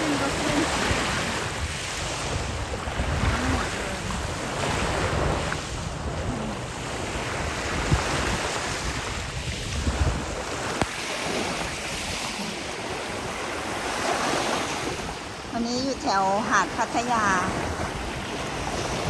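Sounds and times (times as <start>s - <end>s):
sea waves washing onto beach: 0.0s - 19.0s
wind buffeting microphone: 0.0s - 19.0s.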